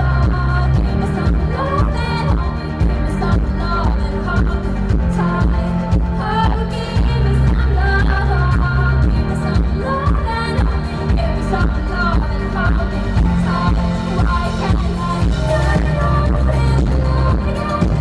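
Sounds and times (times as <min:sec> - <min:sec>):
drums: 0:00.0 - 0:18.0
female lead vocal: 0:00.0 - 0:18.0
heavy bass line: 0:00.0 - 0:18.0
synthesizer keyboards: 0:00.0 - 0:18.0.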